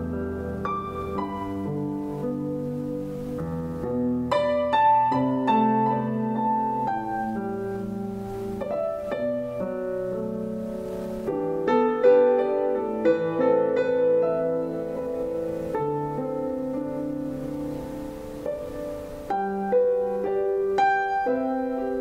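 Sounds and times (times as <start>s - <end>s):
piano instrumental through speaker: 0.0s - 22.0s.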